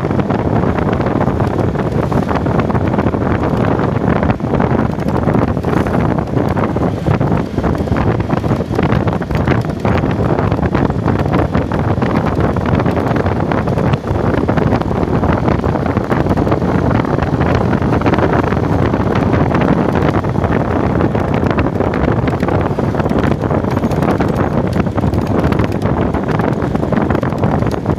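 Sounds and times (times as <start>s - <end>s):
vehicle travel noise: 0.0s - 27.9s
wind buffeting microphone: 0.0s - 27.9s.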